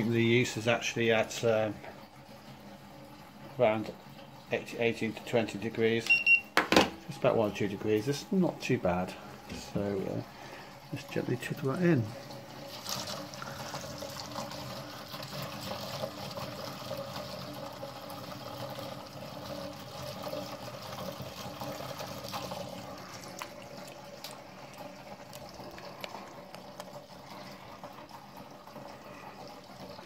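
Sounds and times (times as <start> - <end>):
liquid trickling into vessel: 0.0 - 30.0.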